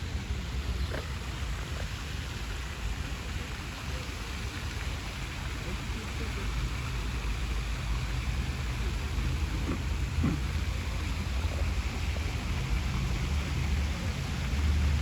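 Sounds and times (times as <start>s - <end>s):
low city rumble: 0.0s - 15.0s.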